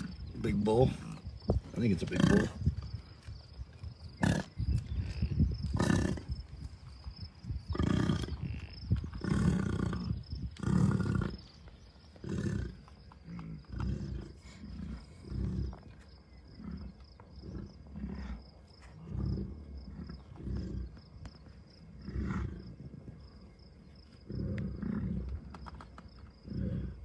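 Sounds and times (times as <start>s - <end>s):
bison grunting: 0.0s - 3.1s, 4.1s - 6.4s, 7.7s - 11.6s, 12.2s - 21.1s, 21.7s - 23.3s, 24.2s - 25.5s, 26.3s - 27.0s.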